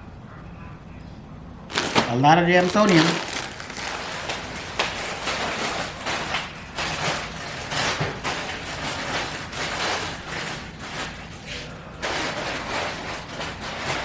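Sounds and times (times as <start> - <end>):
snack packaging crinkling: 1.7 - 14.0.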